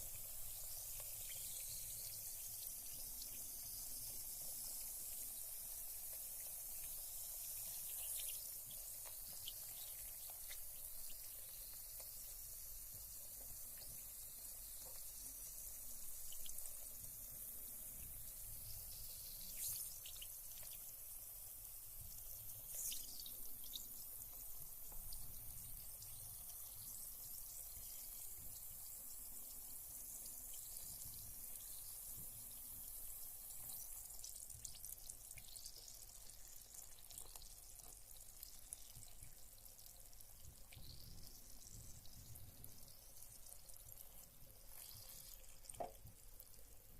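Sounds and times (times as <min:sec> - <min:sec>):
bath bomb fizzing in water: 0:00.0 - 0:46.9
water drips: 0:00.0 - 0:46.9.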